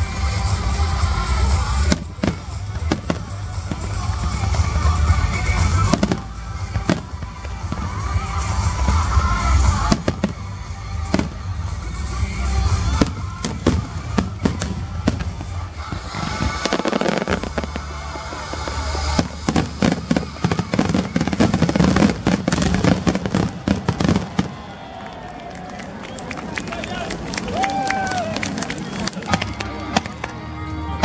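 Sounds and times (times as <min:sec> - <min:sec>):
fireworks bursting: 0:00.0 - 0:25.2
background music: 0:00.0 - 0:26.1, 0:27.0 - 0:31.0.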